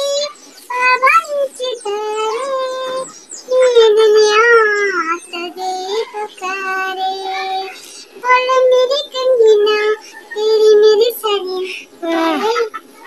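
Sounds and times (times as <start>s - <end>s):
woman singing unaccompanied: 0.0s - 12.7s.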